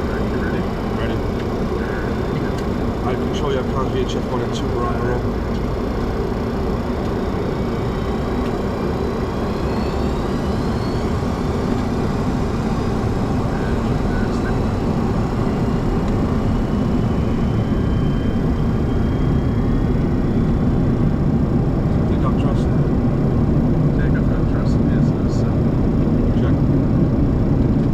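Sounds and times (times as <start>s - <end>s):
faint rising whines: 0.0s - 27.9s
jet engines spooling up: 0.0s - 27.9s.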